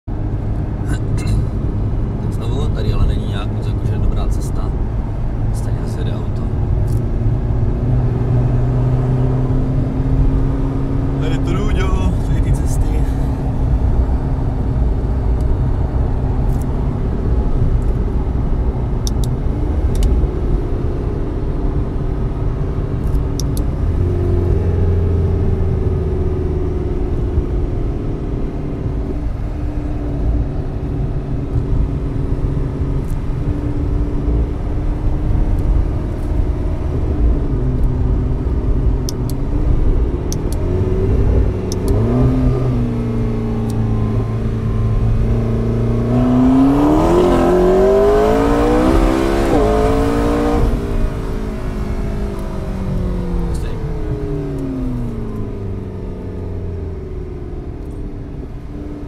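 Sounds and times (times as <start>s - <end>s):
road and tyre rumble: 0.0s - 59.0s
car engine from inside cabin: 0.1s - 59.0s.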